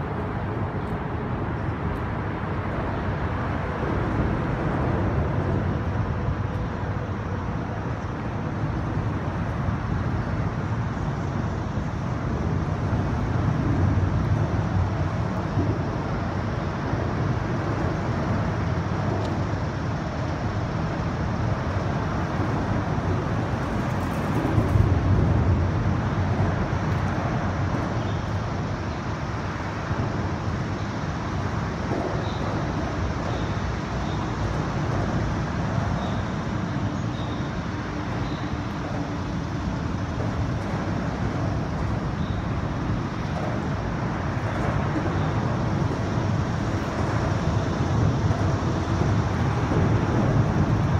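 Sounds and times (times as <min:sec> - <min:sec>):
road traffic rumble: 0:00.0 - 0:50.9.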